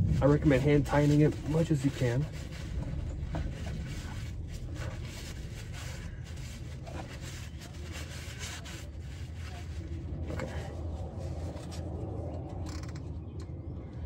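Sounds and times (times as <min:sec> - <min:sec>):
rag rubbing and scraping: 0:00.0 - 0:12.0
steady low hum: 0:00.0 - 0:14.0.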